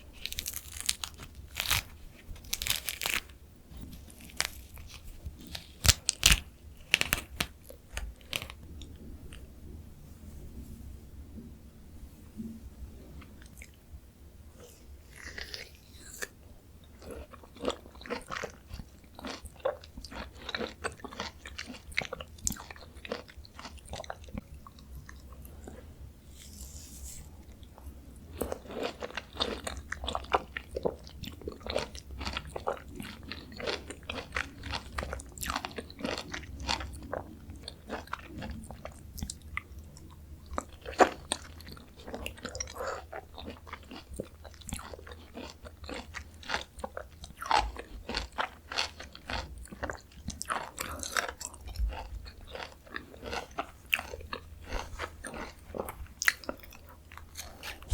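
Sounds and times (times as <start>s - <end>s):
biting and chewing orange: 0.0s - 8.6s, 15.0s - 25.8s, 27.4s - 57.9s.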